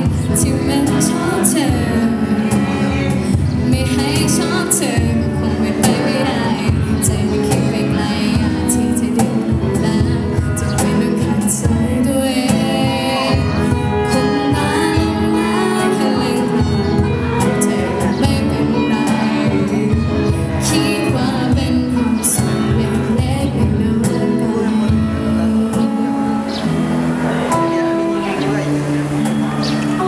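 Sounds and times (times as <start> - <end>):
alto saxophone: 0.0 - 10.5, 12.6 - 30.0
woman singing into microphone: 0.0 - 28.7
acoustic guitar strumming: 0.0 - 30.0
electric guitar: 0.0 - 30.0.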